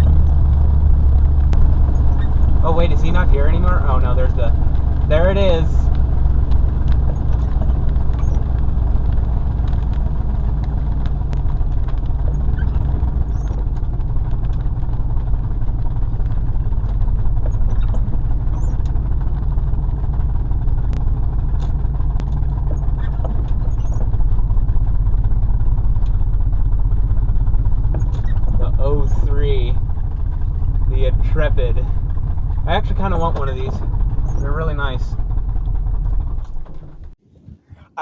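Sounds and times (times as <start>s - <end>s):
engine and road drone: 0.0s - 38.0s.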